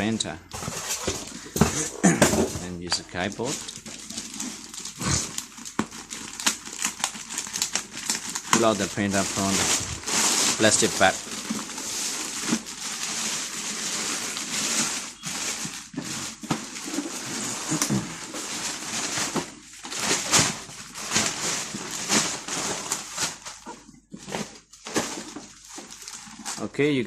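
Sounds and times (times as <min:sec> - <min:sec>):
plastic bag rustling and crinkling: 0:00.0 - 0:26.8.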